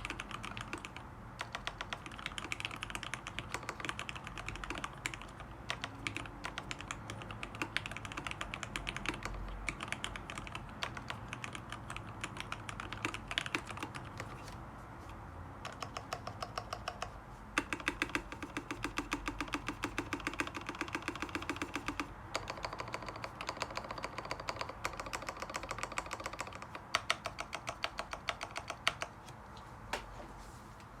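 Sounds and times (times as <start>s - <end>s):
mechanical keyboard typing: 0.0s - 14.6s, 15.6s - 29.3s.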